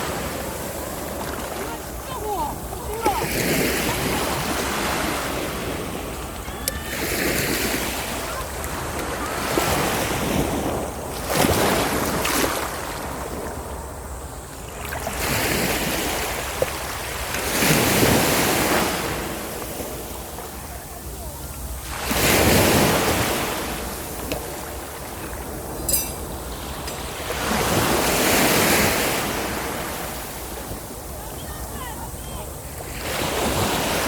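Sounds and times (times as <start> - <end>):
sea waves breaking on beach: 0.0 - 34.0.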